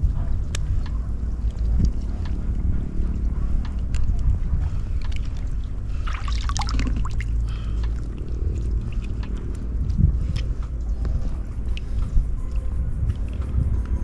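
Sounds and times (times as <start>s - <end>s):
steady low rumble: 0.0s - 14.0s
water trickling and sloshing: 0.0s - 14.0s.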